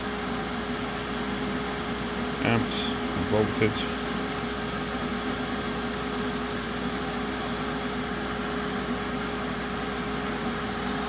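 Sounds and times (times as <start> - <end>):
welder cooling fan whirring: 0.0 - 11.0.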